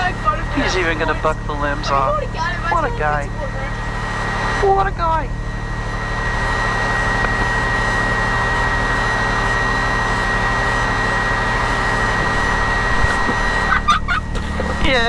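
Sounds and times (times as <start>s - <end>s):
engine idling low: 0.0s - 15.0s
pruning saw whining: 0.0s - 15.0s.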